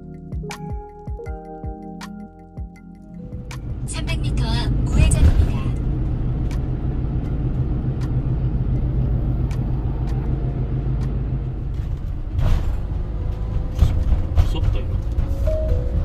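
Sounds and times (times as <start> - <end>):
van engine drone: 0.0 - 16.0
road noise inside cabin: 3.0 - 16.0.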